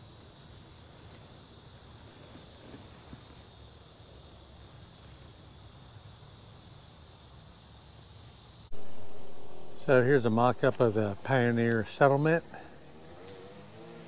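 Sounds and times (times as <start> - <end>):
high insect hum: 0.0 - 14.0
steady hiss: 0.0 - 14.0.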